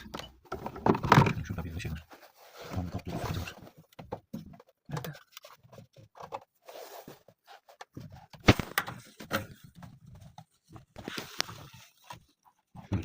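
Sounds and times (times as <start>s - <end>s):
hands handling parts and tools: 0.0s - 13.0s.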